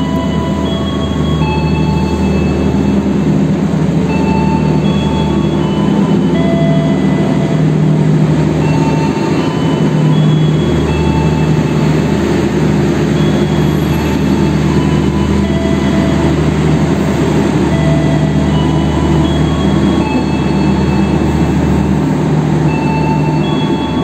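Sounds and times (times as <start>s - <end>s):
diesel locomotive engine drone: 0.0s - 24.0s
train wheel squeals: 0.0s - 24.0s.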